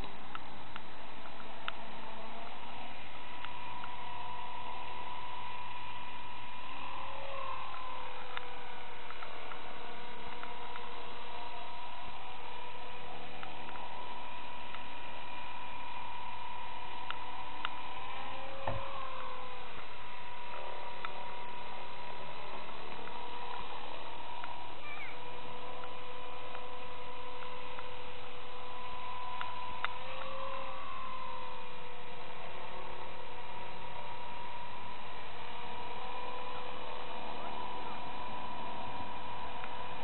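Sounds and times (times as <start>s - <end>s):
toy helicopter rotor whine: 0.0s - 40.0s.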